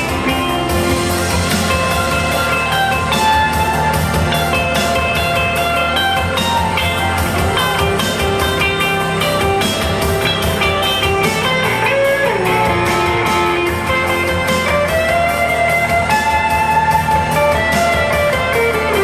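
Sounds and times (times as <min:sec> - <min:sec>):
drum beat: 0:00.0 - 0:19.0
guitar lines: 0:00.0 - 0:19.0
live band playing: 0:00.0 - 0:19.0.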